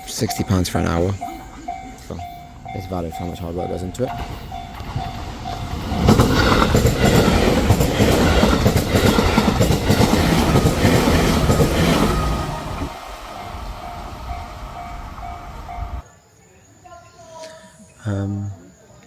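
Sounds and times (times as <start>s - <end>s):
train wheels clattering on track: 0.0s - 16.0s.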